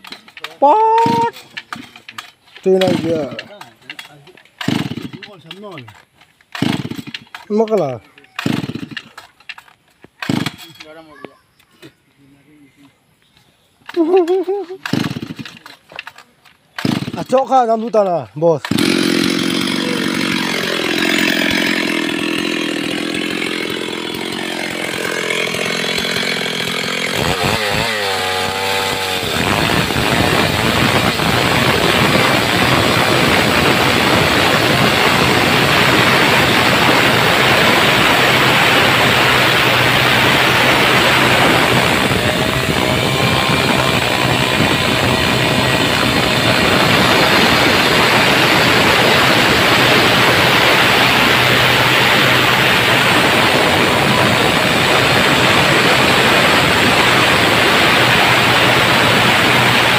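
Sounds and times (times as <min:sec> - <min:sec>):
chainsaw cutting log: 0:00.0 - 0:11.0, 0:13.9 - 0:59.9.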